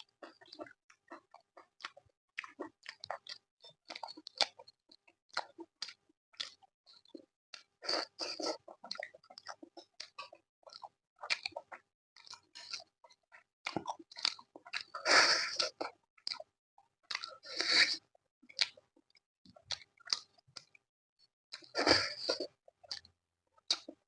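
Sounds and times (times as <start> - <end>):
person chewing food: 0.0 - 20.8, 21.5 - 24.0.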